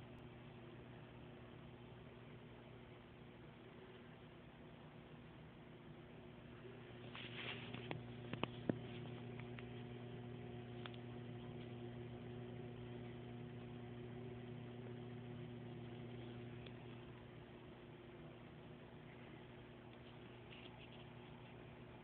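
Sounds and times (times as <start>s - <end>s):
aquarium equipment humming: 0.0s - 22.0s.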